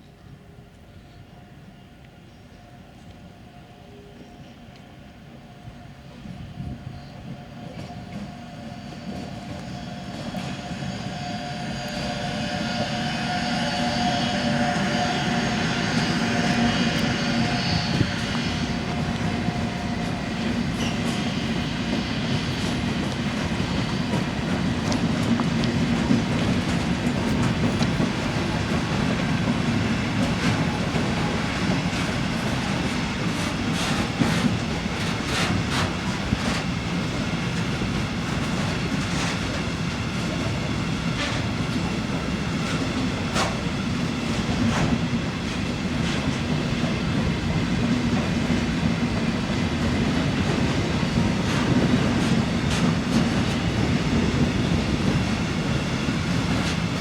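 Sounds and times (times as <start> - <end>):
train rumbling past: 0.1 - 57.0.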